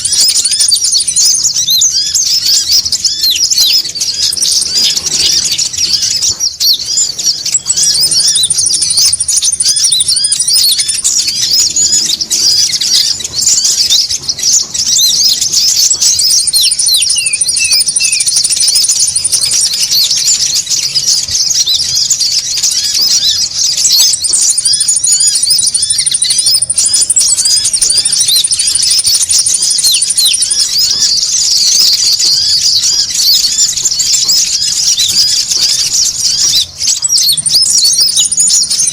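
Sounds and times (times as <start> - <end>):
long high bird trill: 0.0 - 38.9
sunbirds chirping: 0.0 - 38.9.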